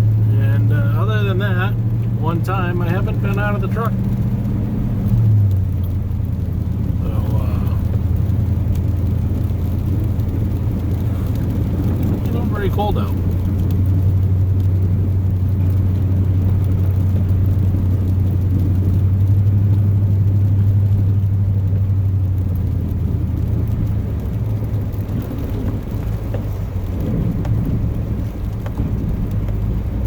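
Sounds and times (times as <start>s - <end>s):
truck engine and road hum: 0.0s - 30.0s.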